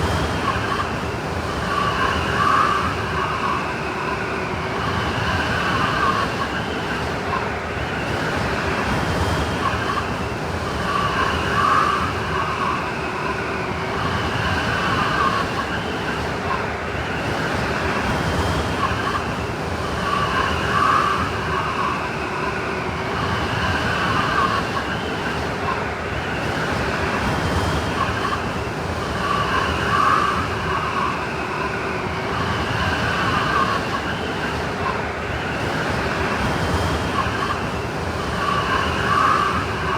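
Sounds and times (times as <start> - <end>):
whistling snowstorm wind: 0.0 - 39.9.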